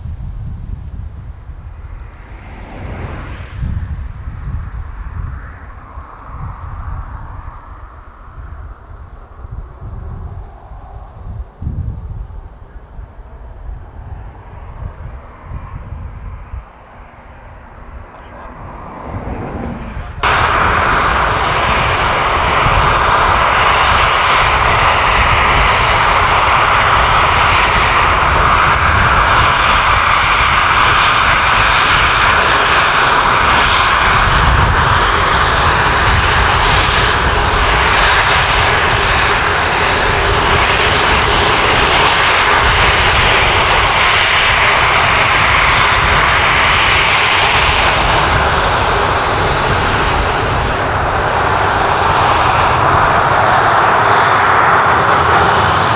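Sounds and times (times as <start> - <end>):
aircraft engines running: 0.0 - 55.9.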